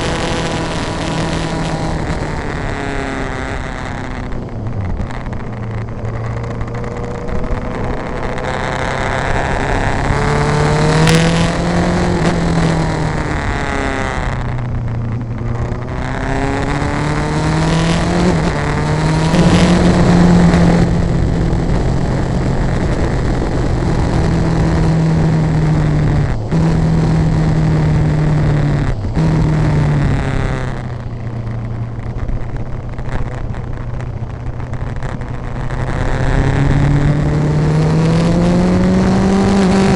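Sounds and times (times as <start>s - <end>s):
vehicle engine accelerating: 0.0s - 39.9s
wind and road noise: 0.0s - 39.9s.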